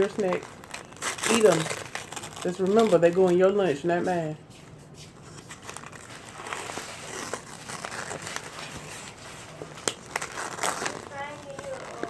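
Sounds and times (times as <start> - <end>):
bag crinkling and rustling: 0.0 - 12.0.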